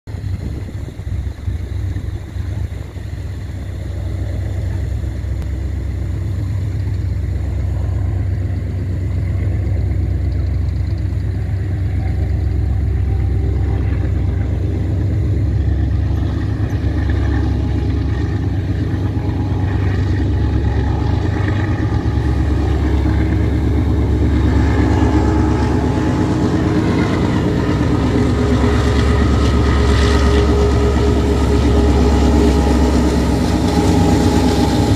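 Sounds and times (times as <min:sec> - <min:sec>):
locomotive engine drone: 0:00.0 - 0:34.9
train rumble: 0:00.0 - 0:34.9.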